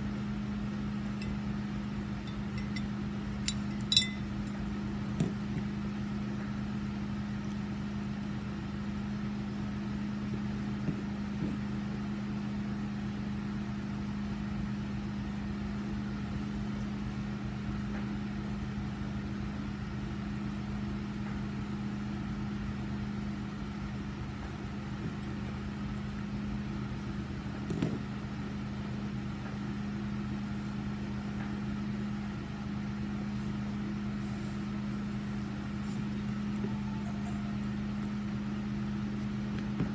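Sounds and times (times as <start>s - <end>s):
low motor hum: 0.0s - 39.9s.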